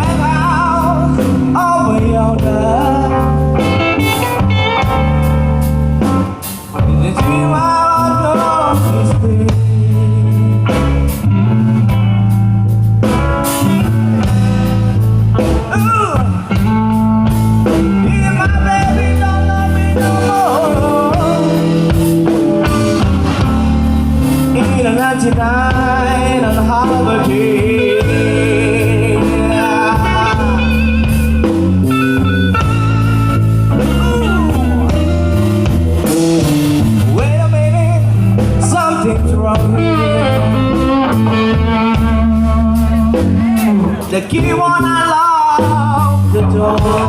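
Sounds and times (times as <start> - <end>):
band playing slow blues: 0.0 - 47.0
electric guitar bending notes: 0.0 - 47.0.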